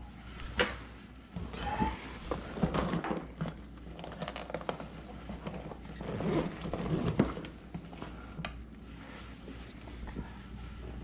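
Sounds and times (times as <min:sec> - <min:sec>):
rustling and scraping: 0:00.2 - 0:11.0.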